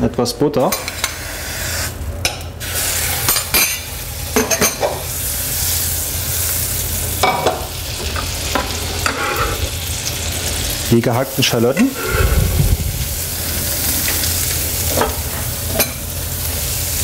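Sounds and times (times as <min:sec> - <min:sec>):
butter sizzling in a saucepan: 0:02.6 - 0:17.0.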